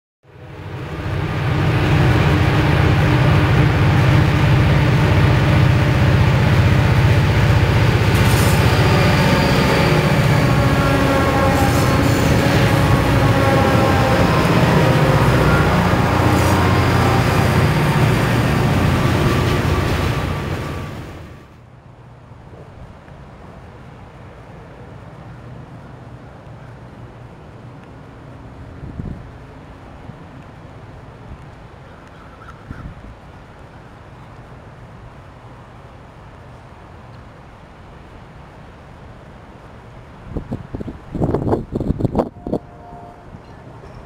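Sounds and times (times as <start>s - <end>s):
train rumbling: 0.2s - 31.8s, 34.0s - 44.0s.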